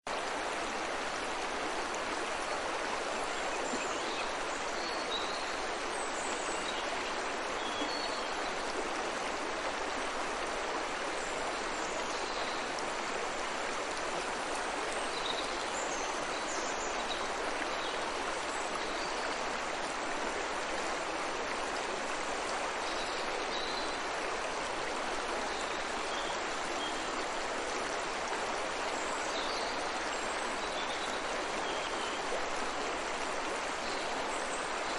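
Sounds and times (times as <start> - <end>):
stream running: 0.1 - 34.9.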